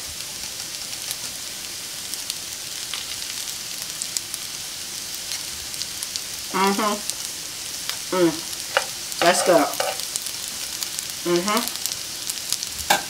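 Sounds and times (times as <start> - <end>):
patties sizzling in frying pan: 0.0 - 13.0.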